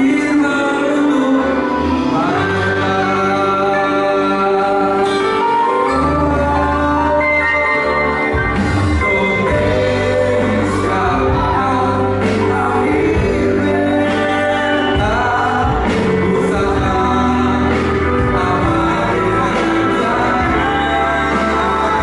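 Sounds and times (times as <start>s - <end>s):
instrumental accompaniment with bass: 0.0s - 22.0s
vocal group singing: 0.0s - 22.0s.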